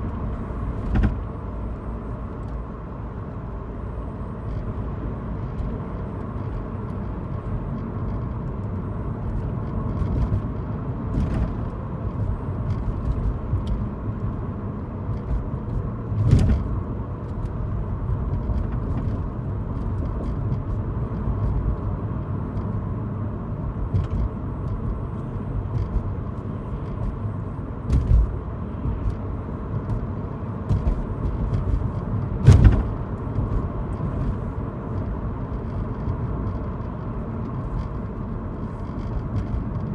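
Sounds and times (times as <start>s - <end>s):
sharp rattles in car: 0.0s - 2.7s, 4.2s - 39.9s
car road and engine noise: 0.0s - 39.9s.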